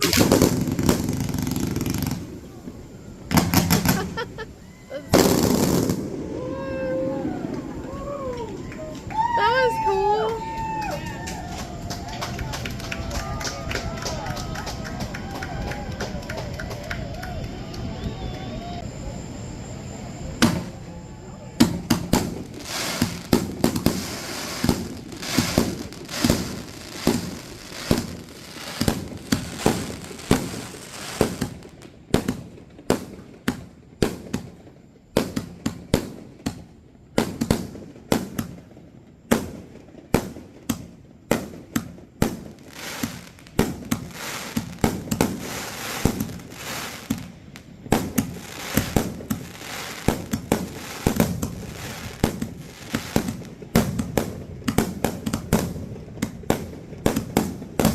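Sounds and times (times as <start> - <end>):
fireworks crackling: 0.0 - 57.9.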